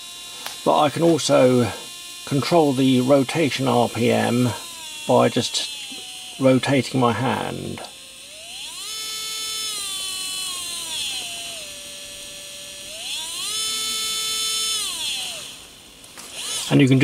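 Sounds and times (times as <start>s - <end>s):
electric screwdriver motor whining: 0.0s - 17.0s.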